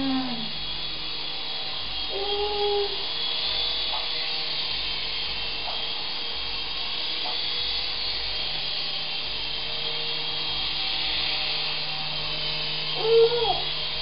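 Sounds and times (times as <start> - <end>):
toy helicopter rotor whir: 0.0 - 14.0.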